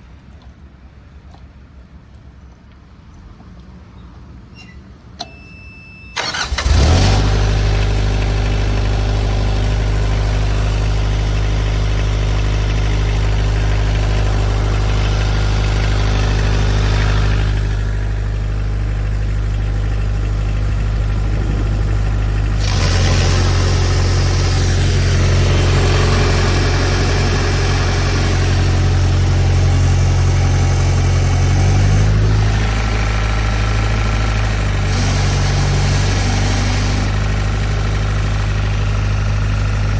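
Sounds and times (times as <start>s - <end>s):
pressure washer diesel engine: 6.2s - 39.9s.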